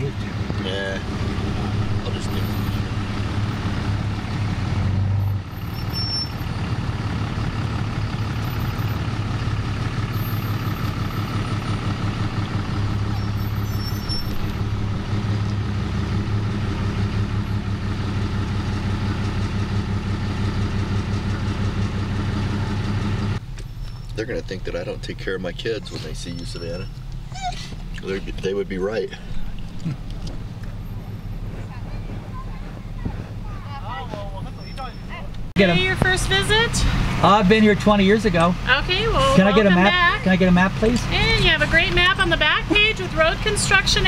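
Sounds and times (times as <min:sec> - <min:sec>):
pickup truck engine idling: 0:00.0 - 0:04.6, 0:05.6 - 0:44.0.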